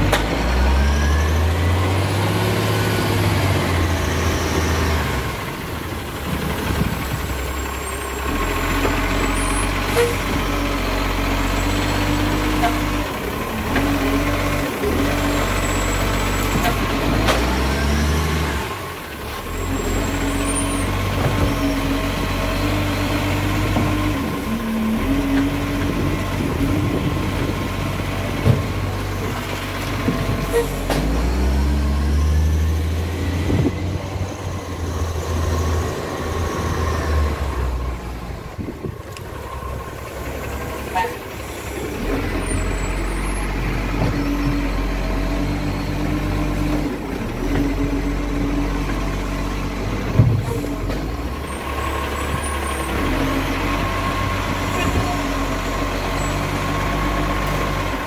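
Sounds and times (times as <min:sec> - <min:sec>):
garbage truck diesel engine: 0:00.0 - 0:58.0.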